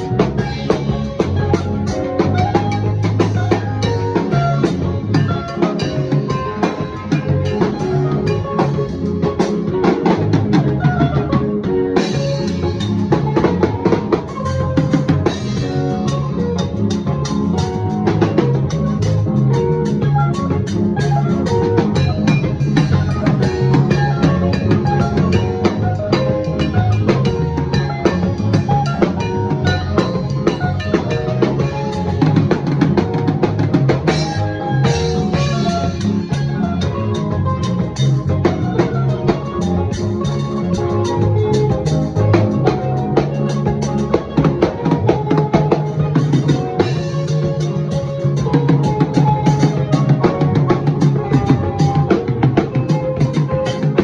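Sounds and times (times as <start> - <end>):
drum and cymbal hits: 0.0 - 54.0
live band music: 0.0 - 54.0.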